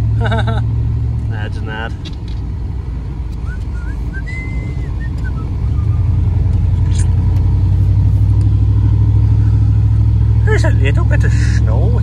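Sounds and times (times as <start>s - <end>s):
truck engine and tyres droning: 0.0s - 12.0s.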